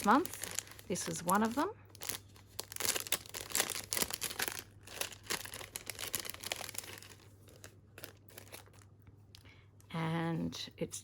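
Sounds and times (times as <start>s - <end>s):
packaging crinkling and rustling: 0.0s - 9.1s.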